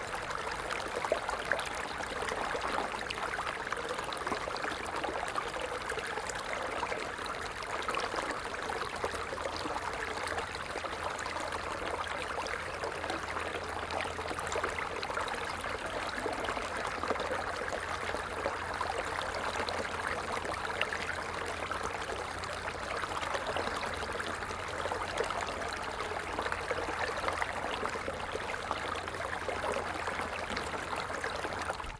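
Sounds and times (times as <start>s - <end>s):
stream babbling over stones: 0.0s - 31.9s.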